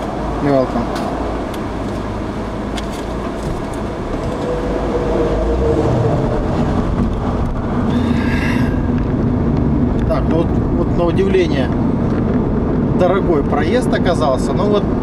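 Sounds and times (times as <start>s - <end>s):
car cabin road noise: 0.0s - 15.0s
faint engine hum: 0.0s - 15.0s.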